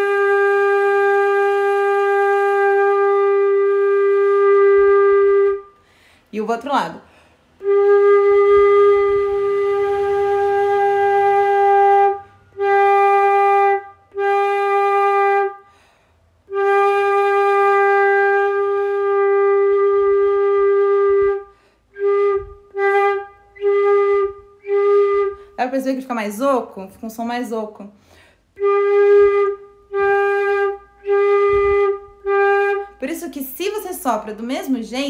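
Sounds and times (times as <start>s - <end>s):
flute playing held notes: 0.0s - 5.8s, 7.6s - 15.7s, 16.5s - 25.6s, 28.6s - 33.9s.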